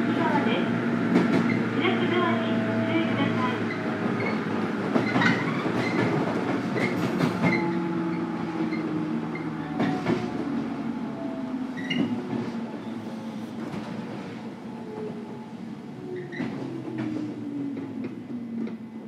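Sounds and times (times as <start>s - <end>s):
rail noise: 0.0s - 19.0s.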